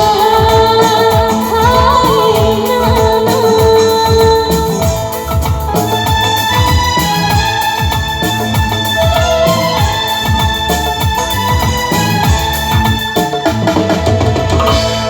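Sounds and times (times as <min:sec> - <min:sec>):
keyboard: 0:00.0 - 0:15.0
steady drum beat: 0:00.0 - 0:15.0.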